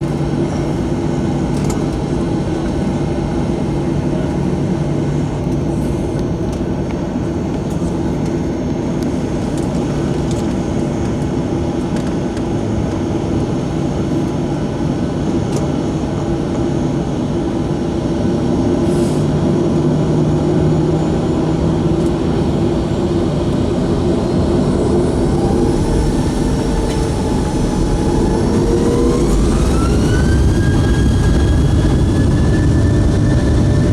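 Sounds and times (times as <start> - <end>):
jet engines whining in cabin: 0.0 - 33.9.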